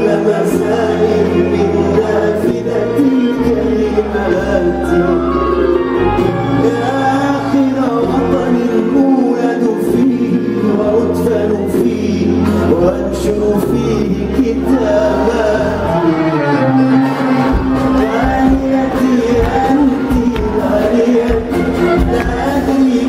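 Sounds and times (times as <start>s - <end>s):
band playing: 0.0s - 23.0s
man singing: 0.0s - 23.0s
steady bass line: 0.0s - 23.0s.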